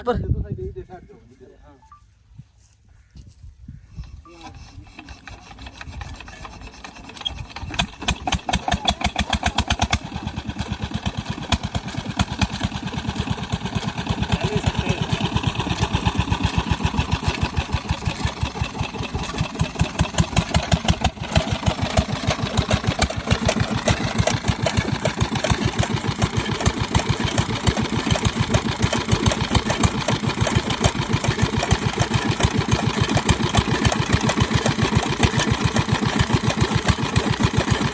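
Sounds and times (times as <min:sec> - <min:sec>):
diesel engine running: 0:04.8 - 0:37.9.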